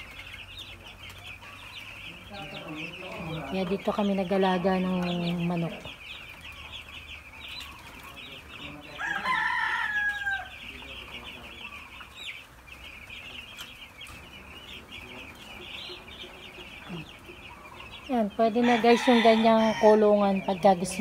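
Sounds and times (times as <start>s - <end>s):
chicks peeping: 0.0s - 21.0s
drawn-out chick call: 0.0s - 21.0s.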